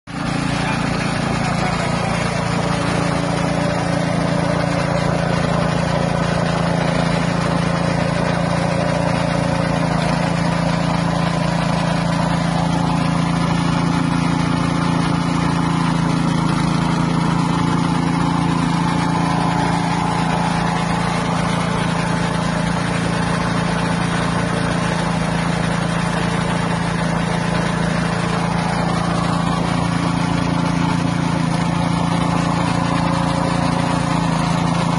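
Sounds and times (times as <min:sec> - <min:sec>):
small engine running steadily: 0:00.0 - 0:34.9.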